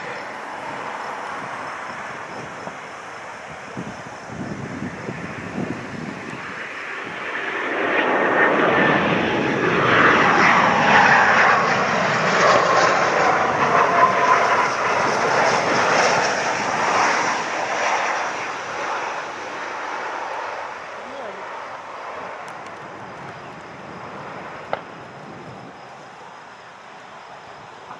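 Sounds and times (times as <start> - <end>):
jet passing close by: 0.0 - 27.9
jet whine falling in pitch: 0.0 - 27.9.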